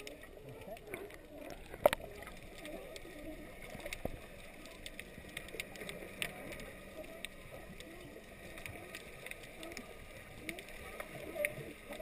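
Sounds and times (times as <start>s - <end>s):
faint underwater clicks and crackles: 0.0s - 12.0s
muffled underwater wash: 0.0s - 12.0s.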